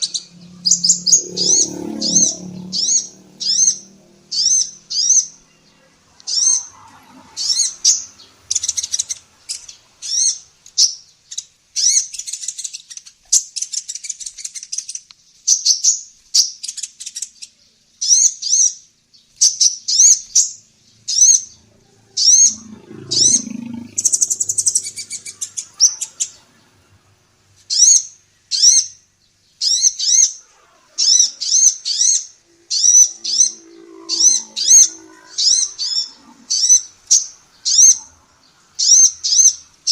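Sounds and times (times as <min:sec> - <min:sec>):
buzzy bird trill: 0:00.0 - 0:18.8, 0:19.4 - 0:39.9
bird chirping: 0:00.0 - 0:39.9.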